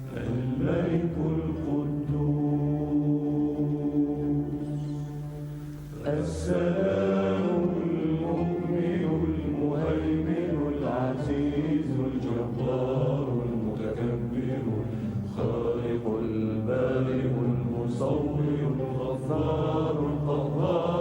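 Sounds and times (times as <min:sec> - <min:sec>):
men chanting a devotional hymn: 0:00.0 - 0:05.0, 0:06.0 - 0:21.0.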